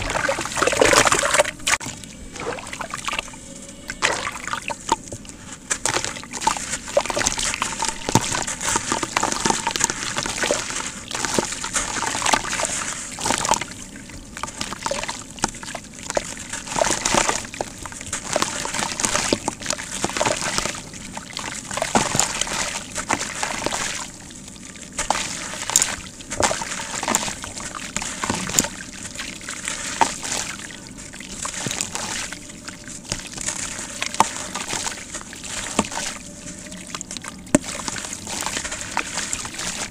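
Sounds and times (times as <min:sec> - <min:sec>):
cement lumps crumbling in water: 0:00.0 - 0:03.1, 0:04.1 - 0:24.2, 0:24.8 - 0:39.9
water sloshing and splashing: 0:00.0 - 0:39.9.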